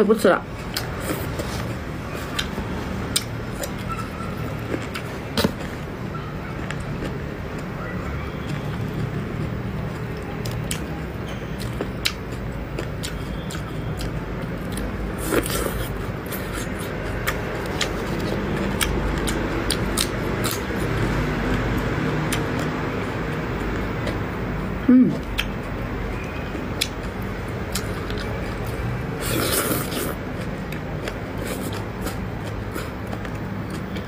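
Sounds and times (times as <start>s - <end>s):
mouth chewing clicks and smacks: 2.3s - 7.8s, 8.4s - 24.4s, 25.1s - 34.0s.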